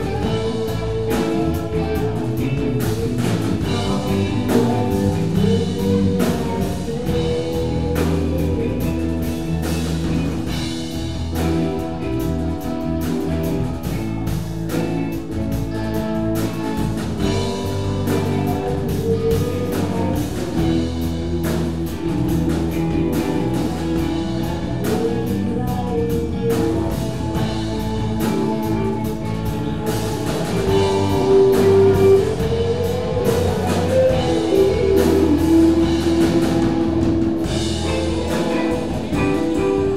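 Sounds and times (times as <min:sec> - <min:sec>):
drum kit: 0:00.0 - 0:39.9
electric bass: 0:00.0 - 0:39.9
electric guitars: 0:00.0 - 0:39.9
keyboard: 0:00.0 - 0:39.9.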